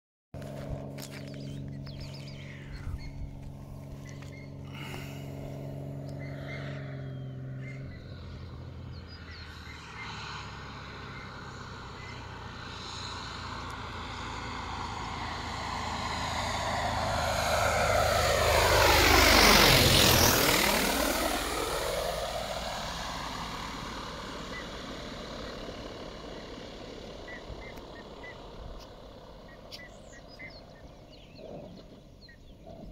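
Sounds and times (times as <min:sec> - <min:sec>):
plane engine and propeller: 0:00.4 - 0:32.9.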